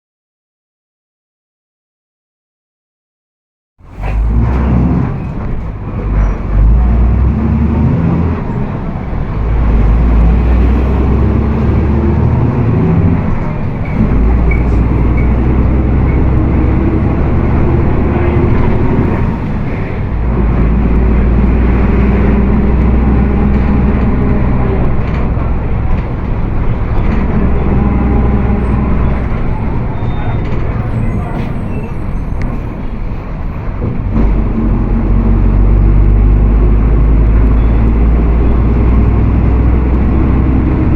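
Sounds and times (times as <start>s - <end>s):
bus engine drone: 3.8s - 40.9s.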